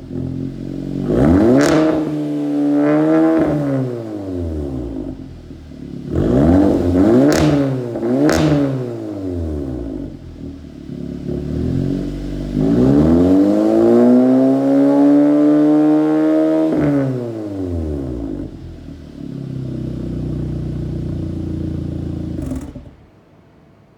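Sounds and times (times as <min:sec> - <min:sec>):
car engine revving: 0:00.0 - 0:23.1.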